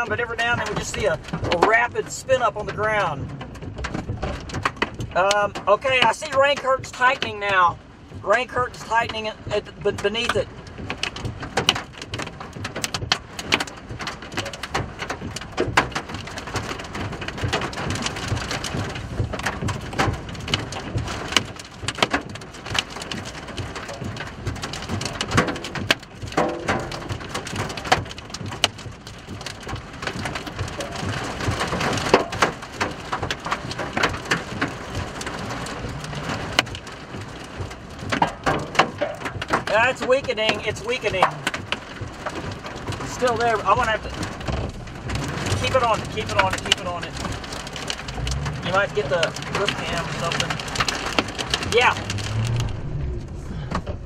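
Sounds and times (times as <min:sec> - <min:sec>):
rain on windshield and roof: 0:00.0 - 0:54.0.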